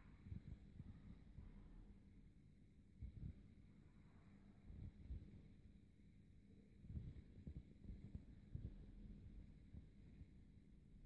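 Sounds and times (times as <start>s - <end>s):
faint low rumble: 0.0s - 11.0s
faint steady hum: 0.0s - 11.0s.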